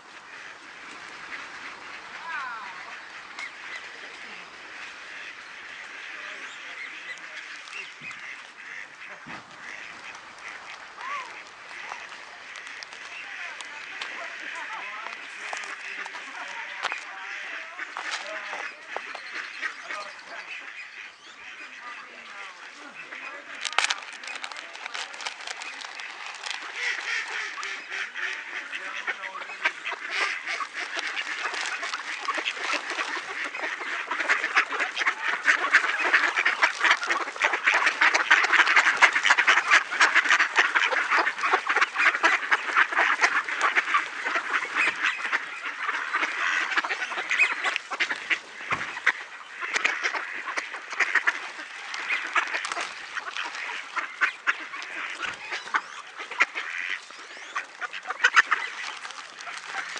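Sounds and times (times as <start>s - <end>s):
ducks quacking: 0.0s - 59.9s.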